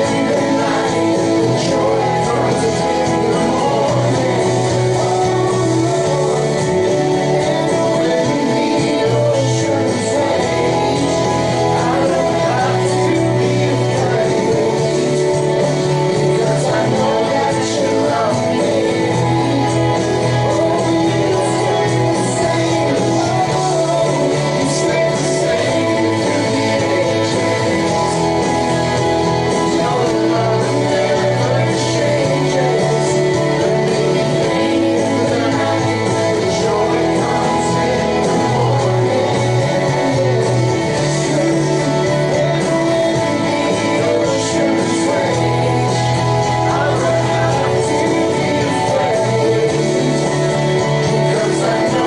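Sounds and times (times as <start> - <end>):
bass line: 0.0 - 52.0
guitar: 0.0 - 52.0
person singing: 0.0 - 52.0
worship band playing: 0.0 - 52.0.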